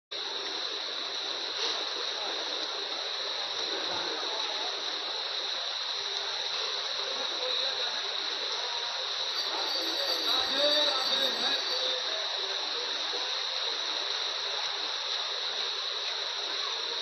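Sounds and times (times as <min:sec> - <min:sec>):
heavy rain falling: 0:00.2 - 0:17.0.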